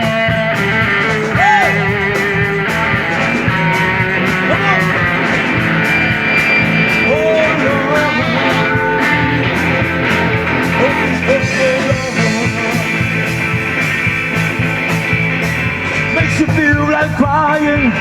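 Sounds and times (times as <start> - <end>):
guitar band music with singing: 0.0 - 18.0.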